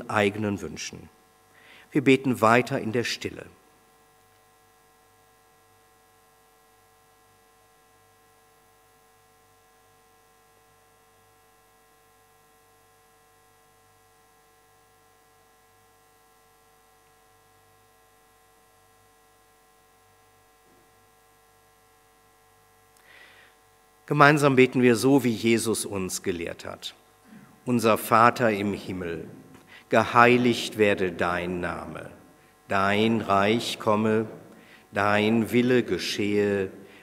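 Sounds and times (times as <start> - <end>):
faint electrical hum and hiss: 0.0 - 37.0.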